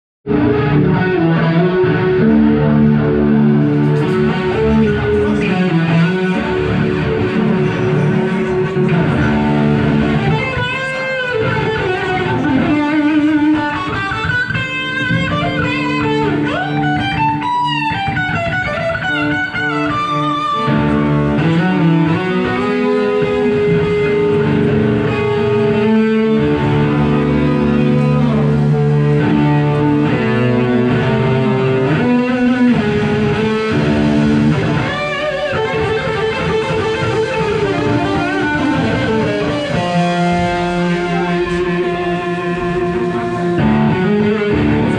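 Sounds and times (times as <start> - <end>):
electric guitars: 0.2 - 44.9
rock band playing live: 0.3 - 44.9.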